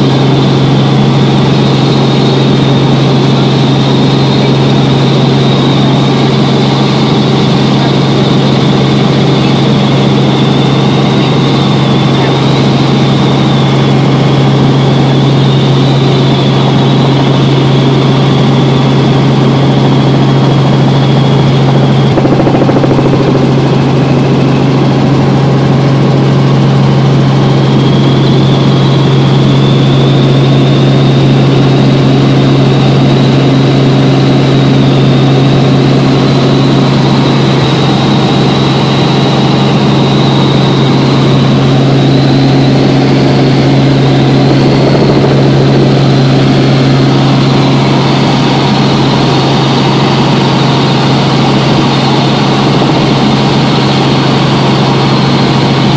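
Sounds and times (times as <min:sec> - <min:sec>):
helicopter drone and whine: 0:00.0 - 0:55.9.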